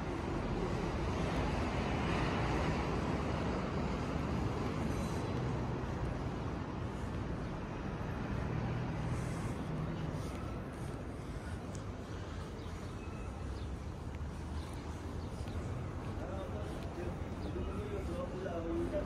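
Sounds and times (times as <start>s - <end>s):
urban background rumble: 0.0s - 19.0s.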